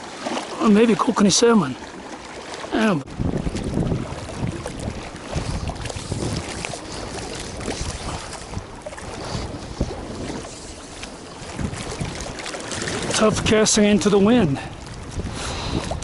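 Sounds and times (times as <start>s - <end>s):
wind buffeting microphone: 3.0s - 16.0s.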